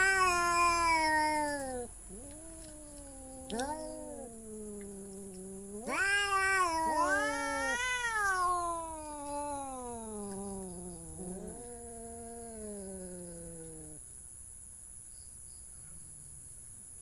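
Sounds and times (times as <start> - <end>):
cat yowling: 0.0 - 14.0.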